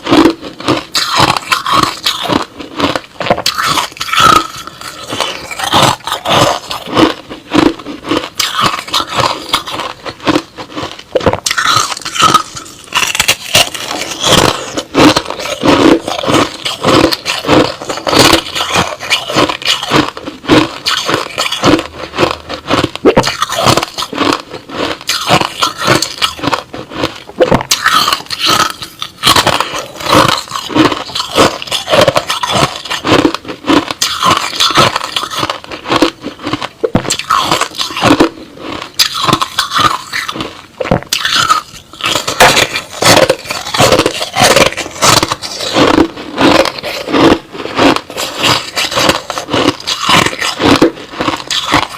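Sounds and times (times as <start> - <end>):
person chewing crushed ice: 0.0 - 51.9.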